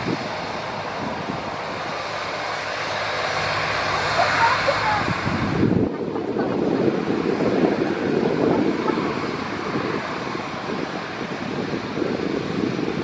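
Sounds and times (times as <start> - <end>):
jet engines running: 0.0 - 13.0
wind buffeting microphone: 0.0 - 13.0.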